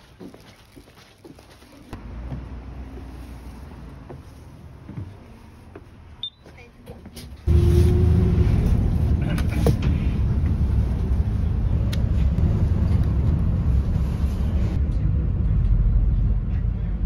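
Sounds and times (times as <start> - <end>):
bus engine and road rumble: 0.0 - 17.0
bus interior rattles and clicks: 1.9 - 17.0.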